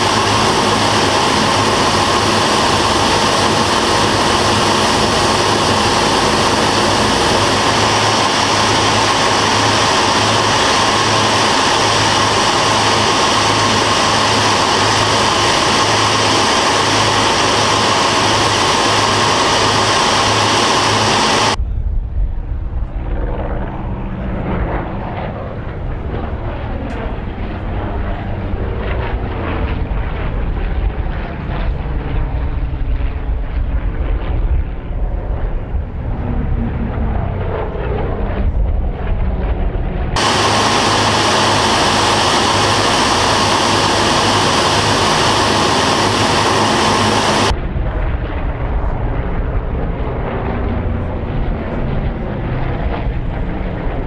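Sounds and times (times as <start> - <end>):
airflow in cockpit: 0.0 - 54.0
distant aircraft engine rumble: 0.0 - 54.0
propeller aircraft engines droning: 0.0 - 54.0.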